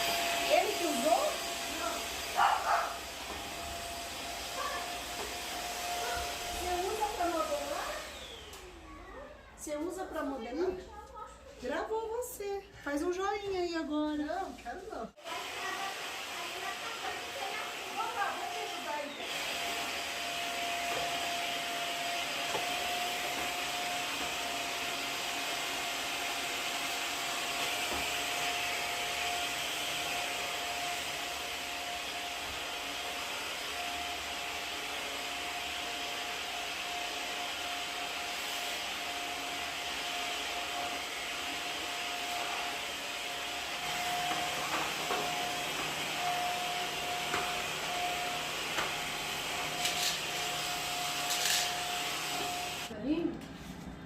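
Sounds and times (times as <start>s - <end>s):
vacuum cleaner running: 0.0s - 10.8s, 11.6s - 53.2s.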